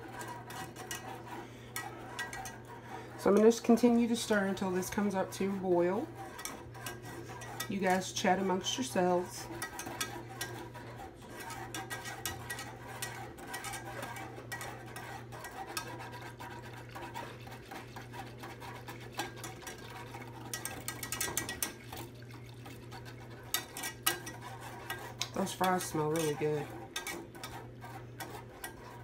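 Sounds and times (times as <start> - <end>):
steady low hum: 0.0 - 29.0
wire whisk scraping a pan: 0.0 - 29.0.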